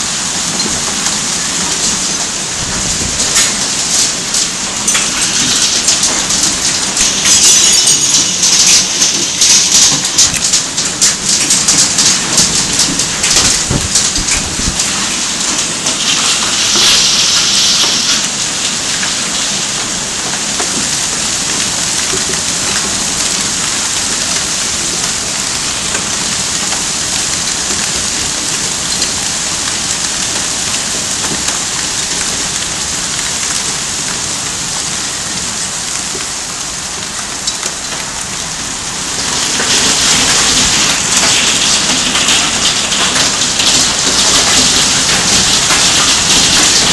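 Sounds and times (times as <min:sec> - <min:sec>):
hail and heavy rain pelting: 0:00.0 - 0:46.9.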